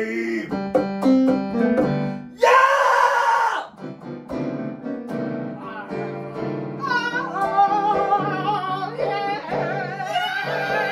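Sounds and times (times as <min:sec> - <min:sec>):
electronic keyboard piano chords: 0:00.0 - 0:02.4, 0:03.7 - 0:10.9.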